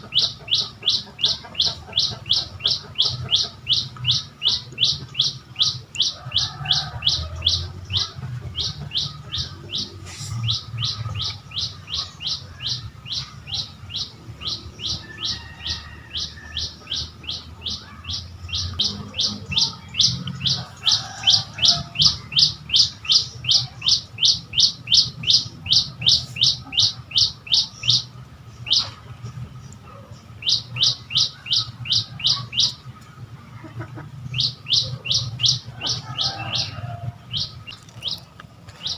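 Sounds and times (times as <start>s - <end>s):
bird chirping: 0.0s - 33.0s, 34.0s - 38.9s.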